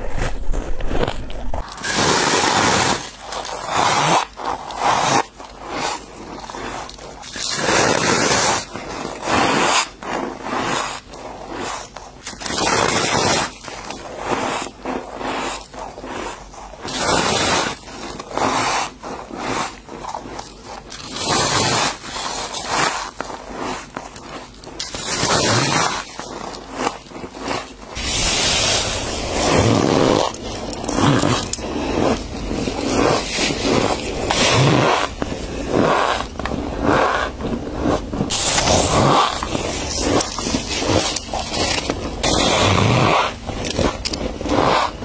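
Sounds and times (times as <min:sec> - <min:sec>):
squeaky ice crunches: 0:00.9 - 0:45.0.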